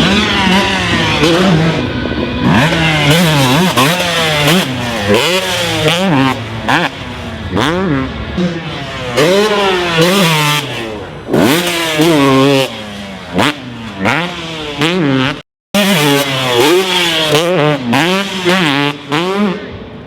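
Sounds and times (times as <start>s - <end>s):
two-stroke motocross engine revving: 0.0s - 20.0s.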